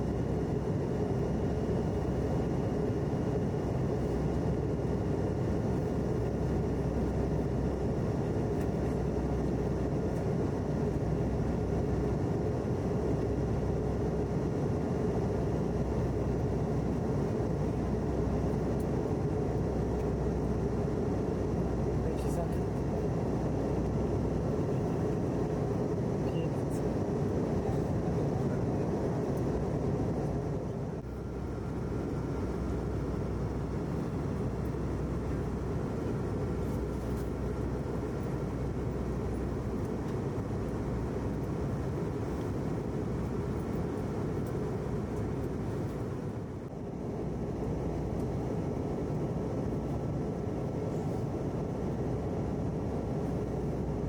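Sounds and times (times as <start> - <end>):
airliner cabin engine rush: 0.0 - 54.0
faint steady whine: 0.0 - 54.0.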